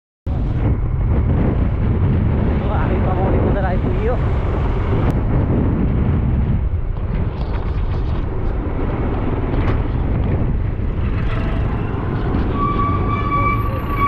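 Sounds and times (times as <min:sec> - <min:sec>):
motorcycle engine and road rumble: 0:00.3 - 0:14.0
wind buffeting microphone: 0:00.3 - 0:14.0.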